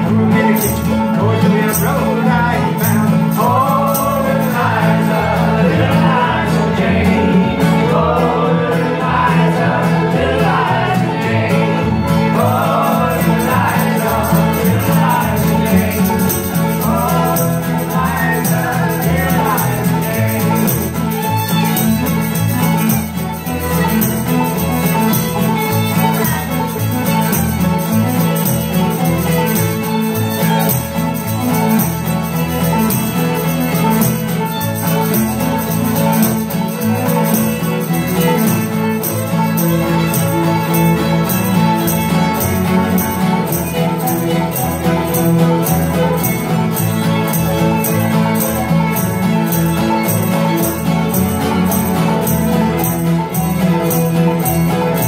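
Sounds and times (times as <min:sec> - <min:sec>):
banjo: 0:00.0 - 0:55.0
fiddle: 0:00.0 - 0:55.0
mandolin: 0:00.0 - 0:55.0
strummed acoustic guitar: 0:00.0 - 0:55.0.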